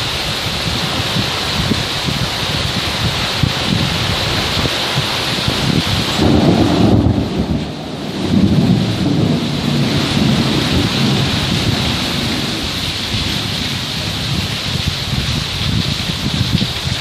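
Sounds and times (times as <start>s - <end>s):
heavy rain: 0.0s - 17.0s
thunder rumbling: 0.0s - 17.0s.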